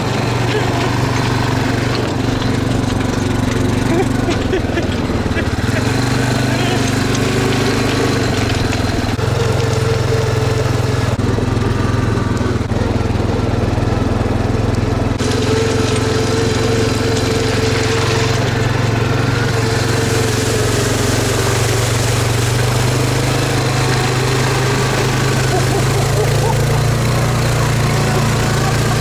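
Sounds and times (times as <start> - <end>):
small engine humming: 0.0 - 29.0.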